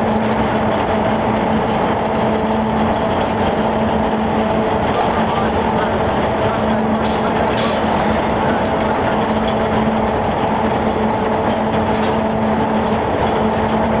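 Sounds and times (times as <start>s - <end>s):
machine mechanical drone: 0.0s - 14.0s.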